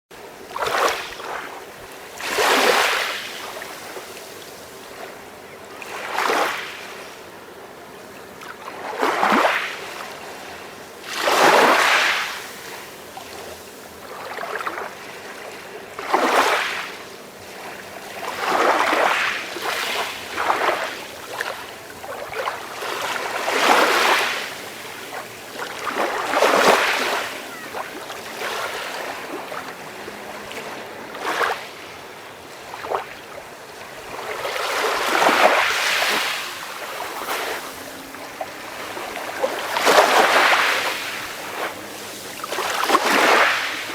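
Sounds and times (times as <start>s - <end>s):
small waves washing onto shore: 0.1s - 43.9s.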